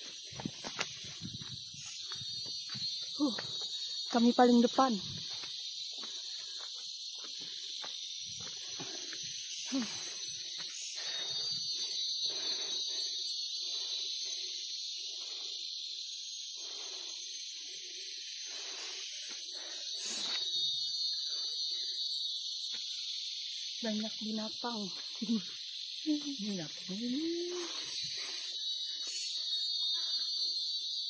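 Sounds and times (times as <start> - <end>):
high wavering insect whine: 0.0 - 31.0
insects droning: 0.0 - 31.0.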